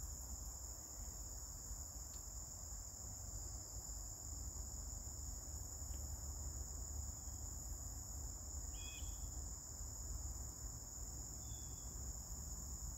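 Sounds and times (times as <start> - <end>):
high-pitched insect chorus: 0.0 - 12.9.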